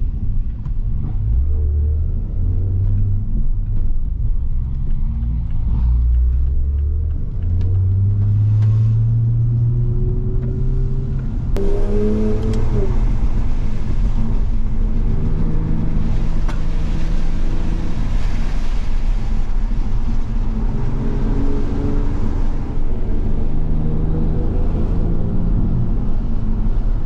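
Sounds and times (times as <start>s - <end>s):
tyre noise on wet road: 0.0s - 27.0s
car engine revving: 0.9s - 27.0s.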